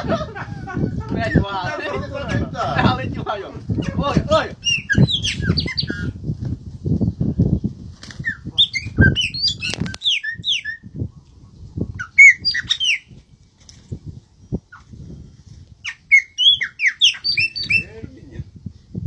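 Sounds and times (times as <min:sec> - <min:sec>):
birds chirping and squawking: 0:00.0 - 0:13.2, 0:14.3 - 0:18.4.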